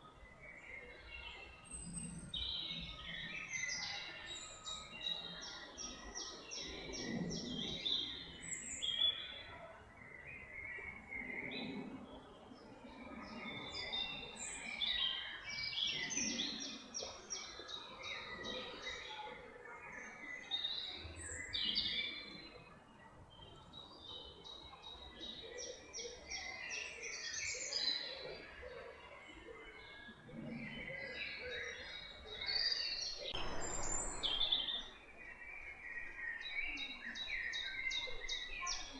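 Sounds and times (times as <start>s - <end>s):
faint outdoor noise: 0.0s - 38.9s.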